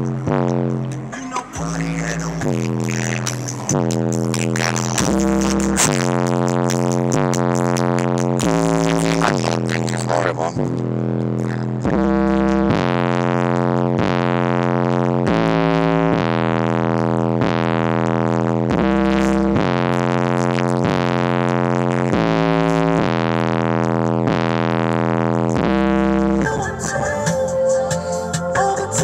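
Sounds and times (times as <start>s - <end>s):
synth bass notes through subwoofers: 0.0s - 29.0s.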